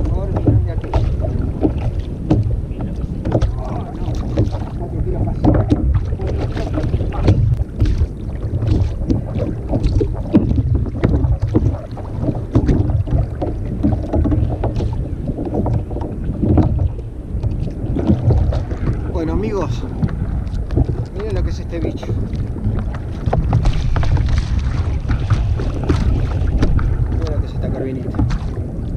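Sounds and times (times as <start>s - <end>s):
knocks against plastic kayak: 0.0s - 19.0s, 22.7s - 27.3s, 28.0s - 28.6s
water splashes: 0.0s - 28.9s
wind buffeting microphone: 0.0s - 28.9s.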